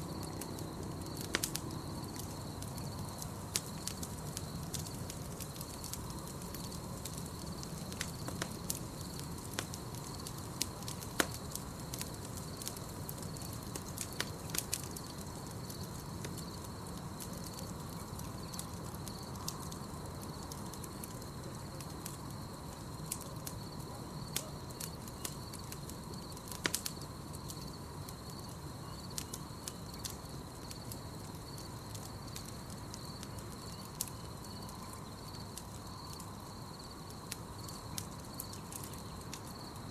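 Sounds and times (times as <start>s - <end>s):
campfire crackling and popping: 0.0s - 39.9s
night insects chirring: 0.0s - 39.9s.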